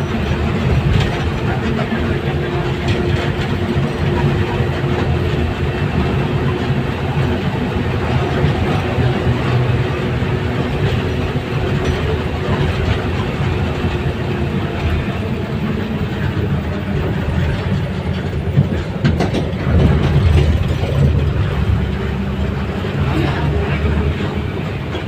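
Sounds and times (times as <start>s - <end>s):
moving vehicle rumble: 0.0s - 25.0s.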